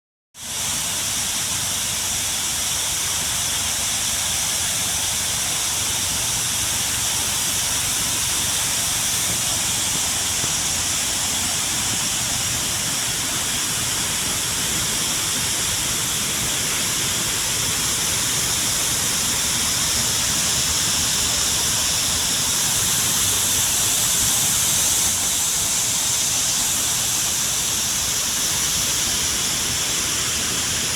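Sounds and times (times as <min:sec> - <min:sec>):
waterfall rushing: 0:00.5 - 0:30.9.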